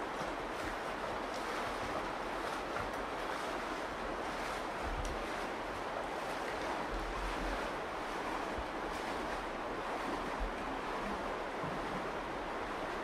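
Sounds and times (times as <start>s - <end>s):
shallow river water rushing: 0.0s - 13.0s
wind rumbling on microphone: 0.0s - 13.0s.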